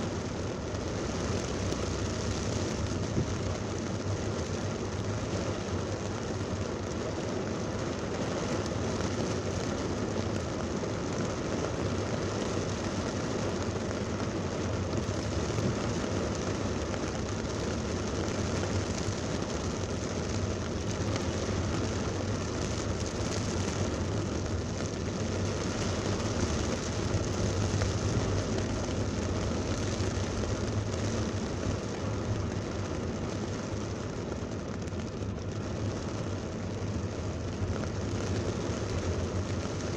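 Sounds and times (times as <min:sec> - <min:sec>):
heavy rain on a car: 0:00.0 - 0:39.9
low rumble of vehicle and road: 0:00.0 - 0:39.9.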